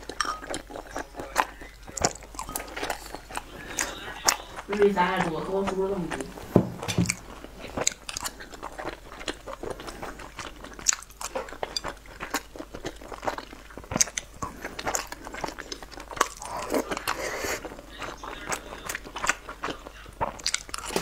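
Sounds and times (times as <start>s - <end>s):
person chewing dumplings: 0.0s - 21.0s.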